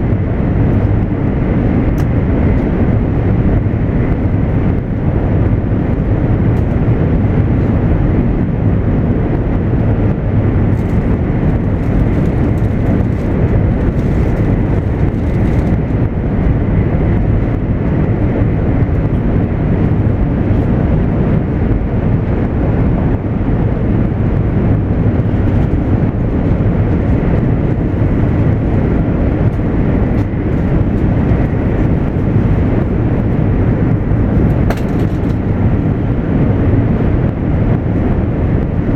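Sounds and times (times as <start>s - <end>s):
train rumbling inside car: 0.0s - 38.9s.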